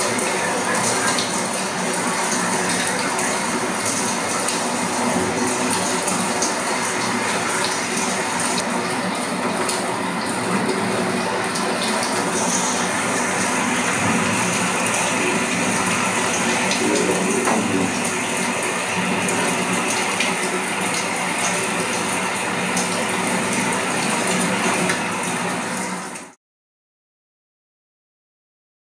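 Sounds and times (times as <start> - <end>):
rain on wet pavement: 0.0 - 26.4.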